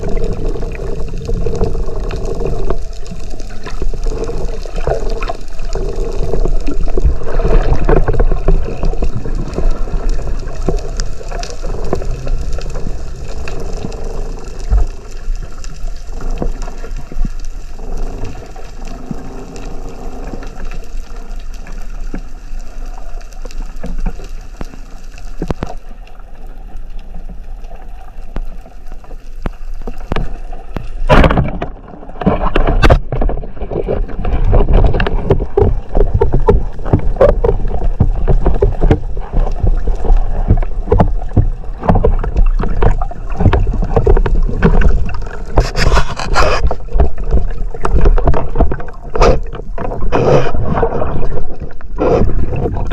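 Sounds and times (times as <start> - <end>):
muffled underwater gurgling rush: 0.0 - 52.9.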